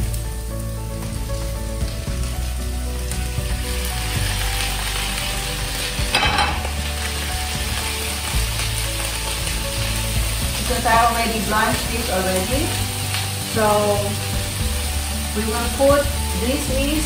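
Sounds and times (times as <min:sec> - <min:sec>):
shrimp sizzling in frying pan: 0:00.0 - 0:17.0.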